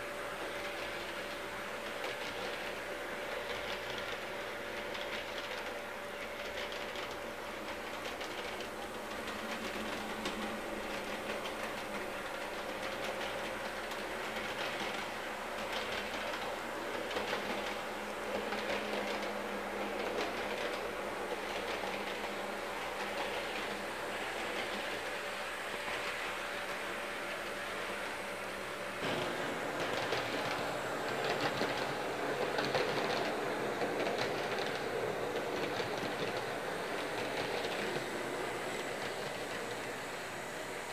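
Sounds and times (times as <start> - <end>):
model train motor whirring: 0.0 - 40.9
wheels clicking over rail joints: 0.0 - 40.9.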